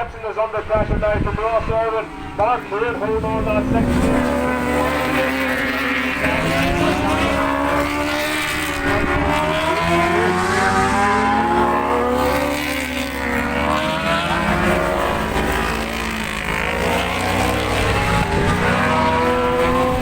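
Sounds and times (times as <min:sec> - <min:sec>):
racing motorbike engines revving: 0:00.0 - 0:20.0.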